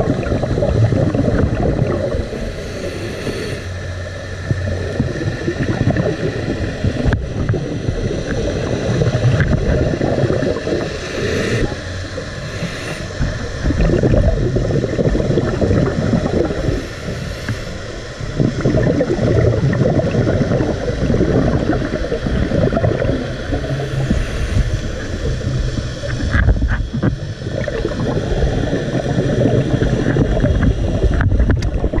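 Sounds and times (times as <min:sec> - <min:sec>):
underwater rumbling and gurgling: 0:00.0 - 0:32.0.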